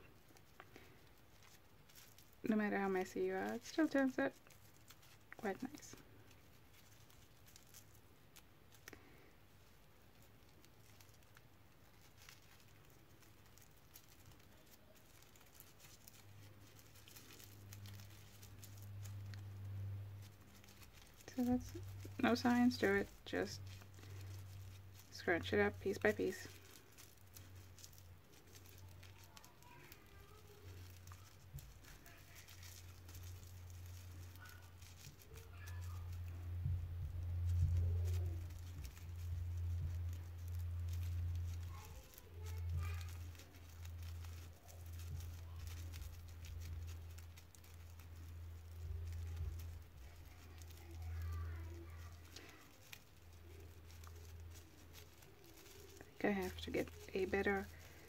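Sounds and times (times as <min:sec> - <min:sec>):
tissue paper crinkling: 0:00.0 - 0:58.0.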